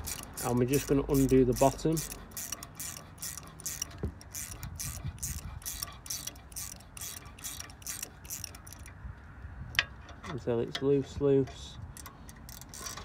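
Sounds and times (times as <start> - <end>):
ratcheting spanner clicking: 0.0 - 9.0, 9.7 - 13.0.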